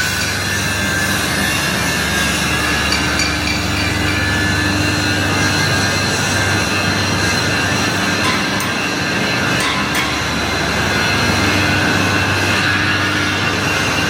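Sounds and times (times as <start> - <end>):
machinery droning: 0.0 - 14.0
steady whining tones: 0.0 - 14.0.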